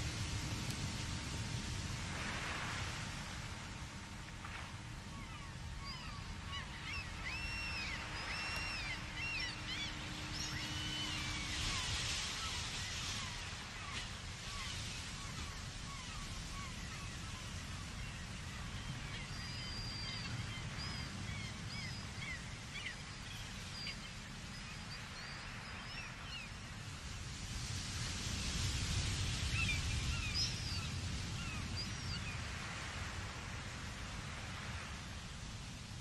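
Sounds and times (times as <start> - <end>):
low rumble and hiss: 0.0 - 36.0.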